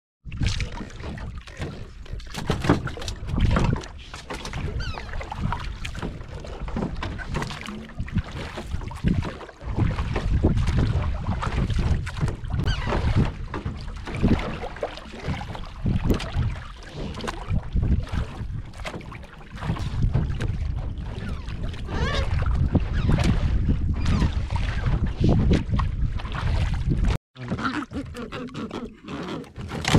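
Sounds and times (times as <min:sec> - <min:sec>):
wind buffeting microphone: 0:00.2 - 0:28.4
water splashing against boat: 0:00.2 - 0:29.9.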